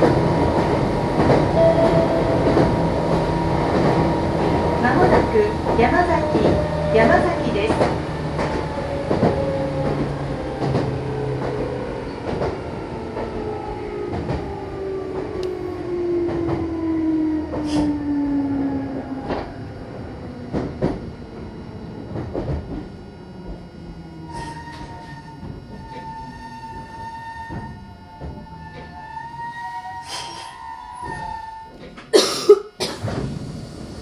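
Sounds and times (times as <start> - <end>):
electric train motor whine: 0.0 - 32.1
train wheels rumbling: 0.0 - 32.2.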